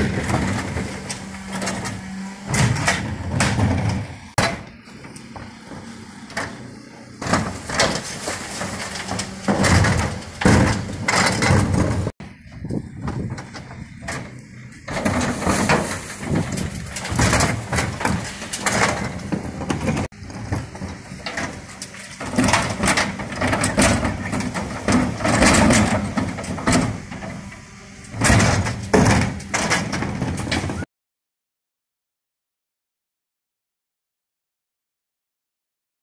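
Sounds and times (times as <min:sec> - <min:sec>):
truck engine running: 0:00.0 - 0:30.8
bin lifter clanking and banging: 0:00.0 - 0:30.9.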